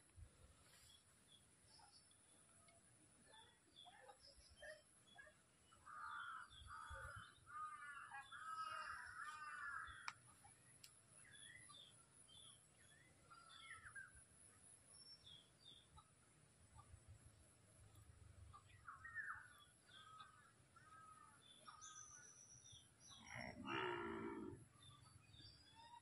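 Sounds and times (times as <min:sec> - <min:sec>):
small birds chirping: 0:00.8 - 0:26.0.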